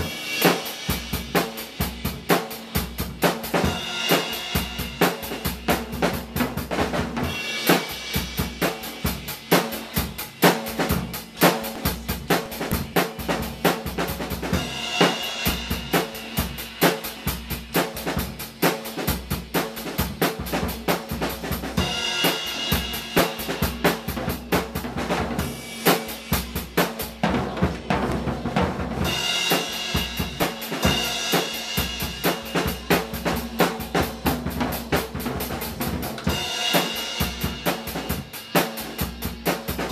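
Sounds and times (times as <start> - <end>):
drum kit playing fast groove: 0.0 - 39.9.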